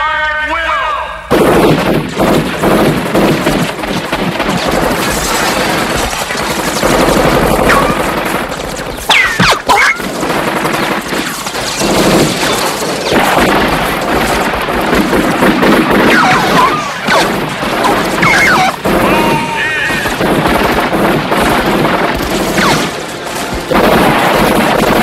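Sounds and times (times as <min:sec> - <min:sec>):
automatic gunfire: 0:01.3 - 0:25.0.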